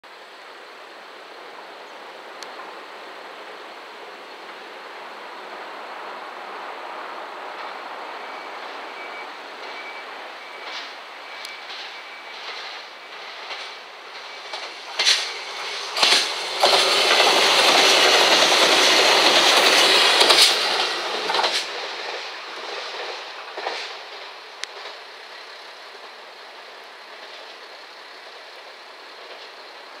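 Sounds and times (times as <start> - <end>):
diesel train rushing past: 0.1 - 30.0.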